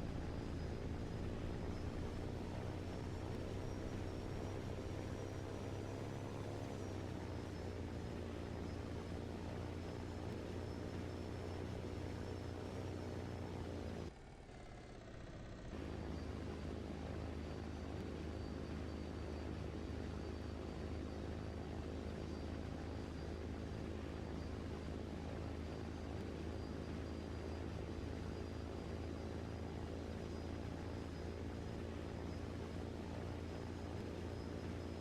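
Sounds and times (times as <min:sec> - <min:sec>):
low mechanical drone: 0:00.0 - 0:35.0.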